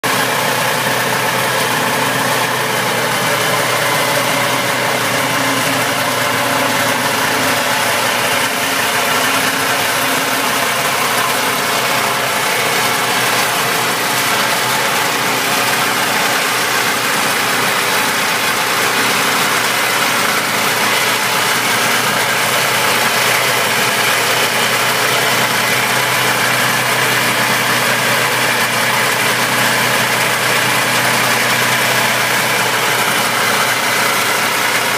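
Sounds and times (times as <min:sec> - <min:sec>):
snowmobile engine idling: 0:00.0 - 0:34.9.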